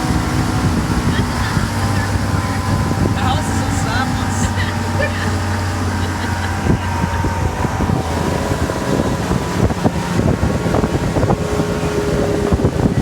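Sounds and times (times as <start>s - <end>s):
boat engine hum: 0.0s - 13.0s
wind buffeting on microphone: 0.0s - 13.0s.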